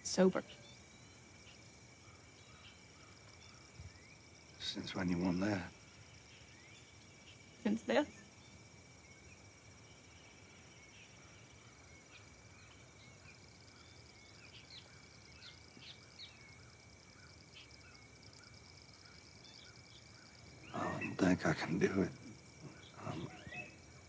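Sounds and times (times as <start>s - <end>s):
fast pulsing insect buzz: 0.0s - 24.0s
insect high trill: 0.0s - 24.0s
short insect chirps: 0.0s - 24.0s.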